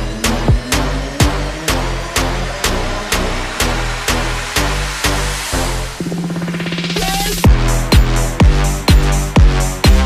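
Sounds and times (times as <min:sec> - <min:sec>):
electronic dance music: 0:00.0 - 0:10.0
held bass line: 0:00.0 - 0:10.0
steady kick drum: 0:00.0 - 0:10.0.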